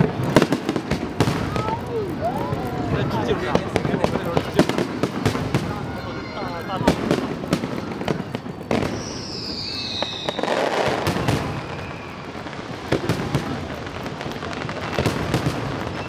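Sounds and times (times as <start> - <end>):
fireworks bangs and crackles: 0.0 - 16.0
descending firework whistle: 1.2 - 16.0.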